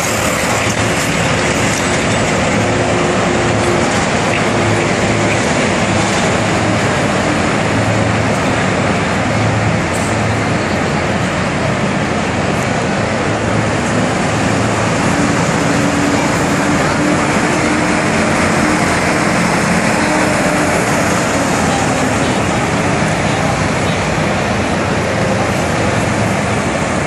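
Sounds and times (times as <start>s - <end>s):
tractor engines running: 0.0s - 27.0s.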